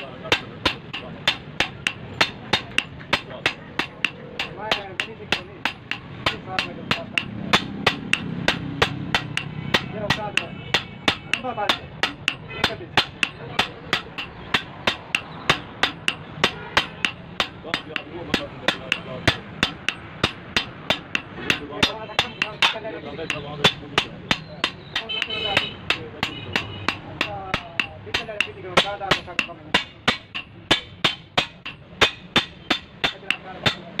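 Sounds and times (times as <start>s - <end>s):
hammer striking metal blade: 0.0s - 34.0s.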